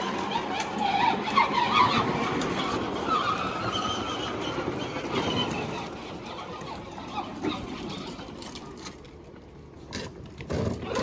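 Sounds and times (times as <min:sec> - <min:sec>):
wheels rumbling: 0:00.0 - 0:11.0.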